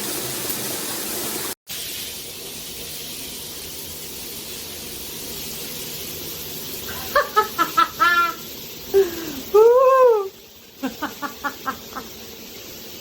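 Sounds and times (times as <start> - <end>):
shower spray running: 0.0 - 13.0.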